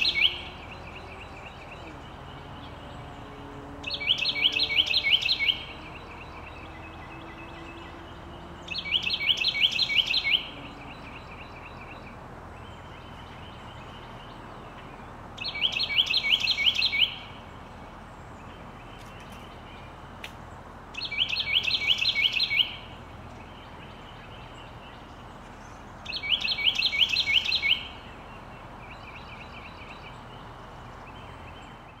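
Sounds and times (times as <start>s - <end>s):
wren singing: 0.0s - 32.0s.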